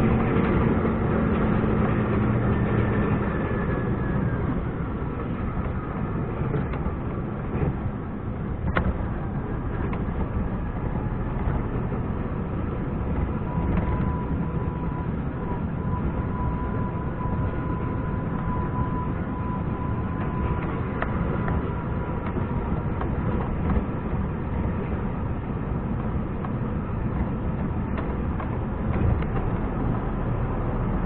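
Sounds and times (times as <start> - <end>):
truck diesel engine rumbling: 0.0 - 31.0
thin steady whine: 2.2 - 31.0.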